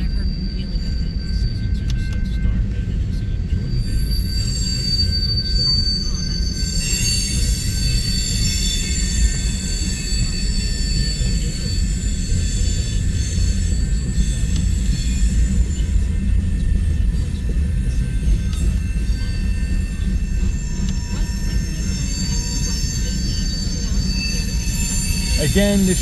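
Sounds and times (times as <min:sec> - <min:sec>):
freight train rumbling past: 0:00.0 - 0:26.0
high steel-wheel squeal: 0:00.0 - 0:26.0.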